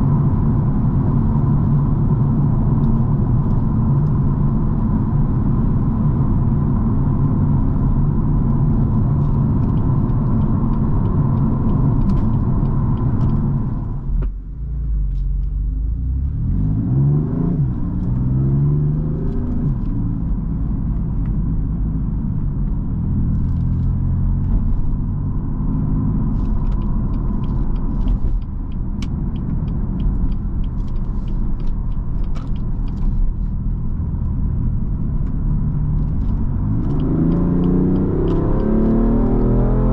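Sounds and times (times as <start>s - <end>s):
car engine accelerating: 0.0s - 39.9s
road rumble: 0.0s - 39.9s.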